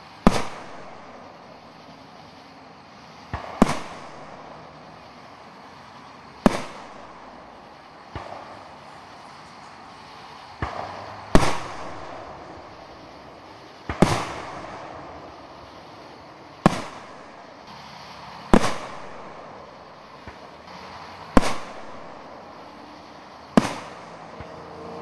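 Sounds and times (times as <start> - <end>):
firework shells bursting: 0.0 - 24.8.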